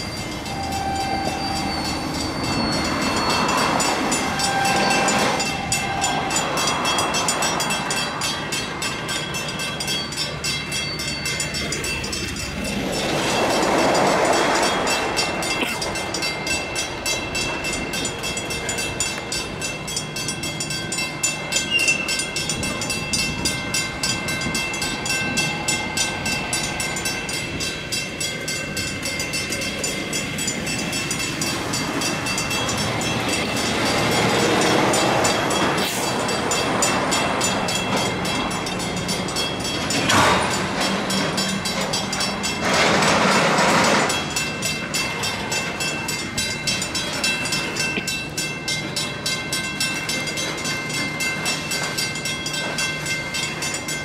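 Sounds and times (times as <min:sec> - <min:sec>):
rushing noises: 0:00.0 - 0:18.8, 0:22.3 - 0:48.0
crossing bell ringing: 0:00.0 - 0:54.0
train wheels clacking on rails: 0:00.0 - 0:54.0.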